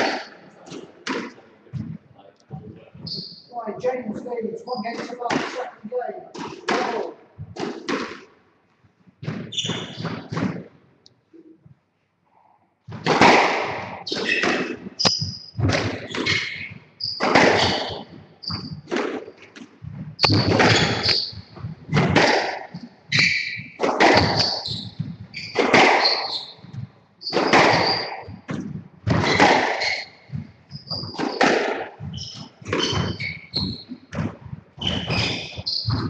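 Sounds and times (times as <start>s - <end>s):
squash ball hitting rackets and walls: 0.0s - 2.0s, 4.3s - 8.4s, 9.2s - 10.8s, 12.8s - 36.0s
shoes squeaking on wooden floor: 0.0s - 7.8s, 9.1s - 10.4s, 13.7s - 36.0s.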